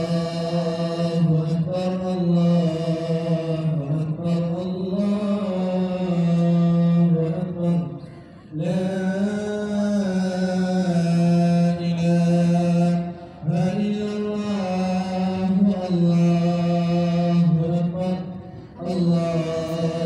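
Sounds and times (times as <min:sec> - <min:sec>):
person chanting: 0:00.0 - 0:20.0.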